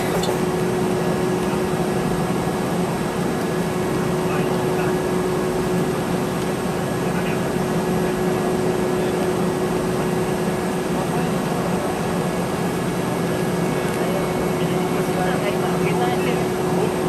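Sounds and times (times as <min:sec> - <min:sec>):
airliner cabin engine hum: 0:00.0 - 0:17.0.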